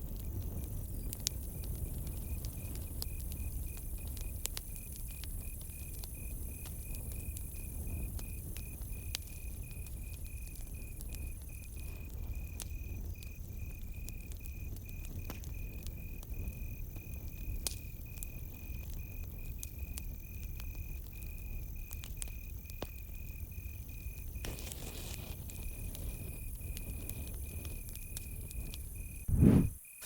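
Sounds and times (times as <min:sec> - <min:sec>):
campfire crackling and popping: 0:00.0 - 0:30.0
crickets chirping: 0:00.2 - 0:30.0.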